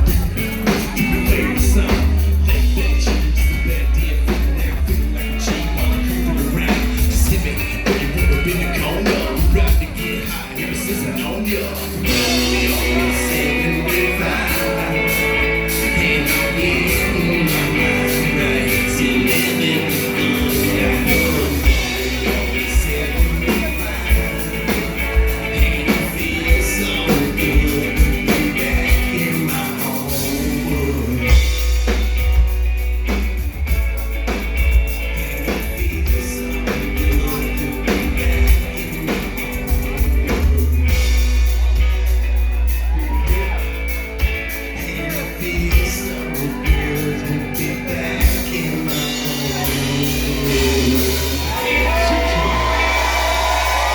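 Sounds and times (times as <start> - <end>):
person singing: 0.0 - 32.5, 33.1 - 53.9
live rock band playing: 0.0 - 53.9.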